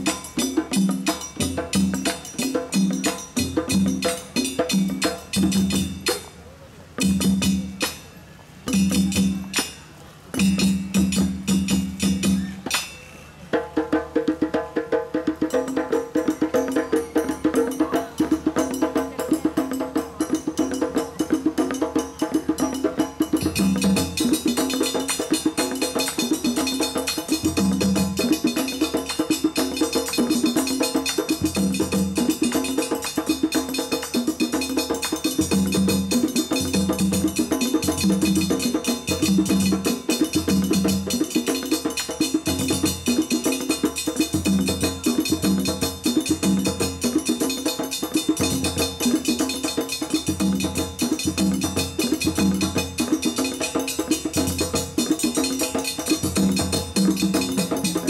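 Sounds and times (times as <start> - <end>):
hand drums and stick drums: 0.0 - 58.0.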